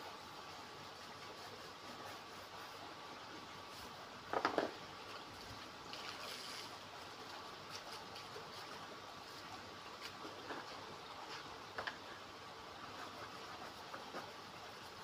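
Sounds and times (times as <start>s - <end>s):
water trickling and splashing: 0.8s - 15.0s.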